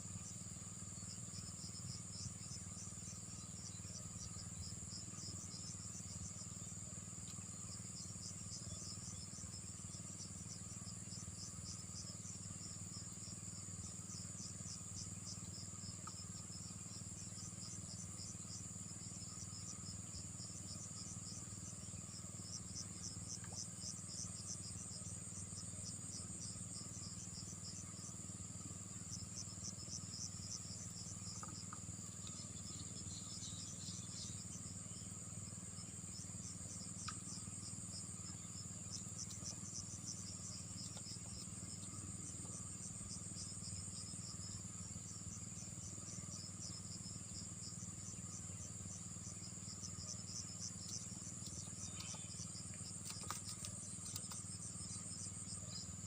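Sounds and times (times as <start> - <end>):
insect rapid chirps: 0.0 - 56.0
insects droning: 0.0 - 56.0.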